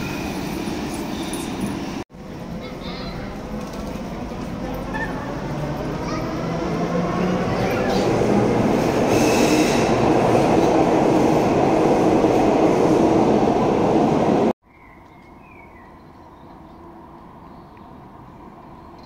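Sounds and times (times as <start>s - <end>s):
quiet street background: 0.0s - 19.0s.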